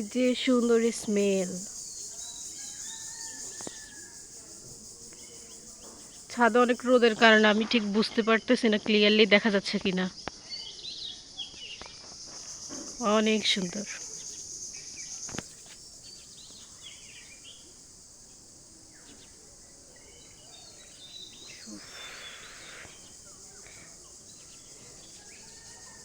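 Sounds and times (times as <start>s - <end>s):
faint bird chirps: 0.0s - 7.3s, 9.6s - 26.0s
high-pitched insect drone: 0.0s - 7.4s, 10.2s - 26.0s.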